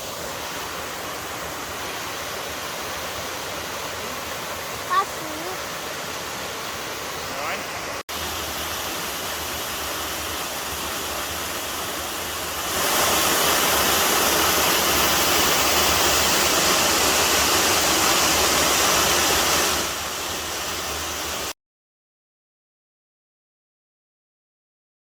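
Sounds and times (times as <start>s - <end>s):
waterfall rushing water: 0.0s - 21.6s.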